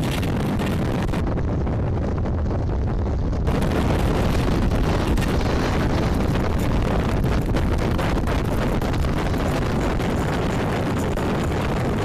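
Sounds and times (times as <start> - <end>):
loud low rumbling: 0.0 - 12.0.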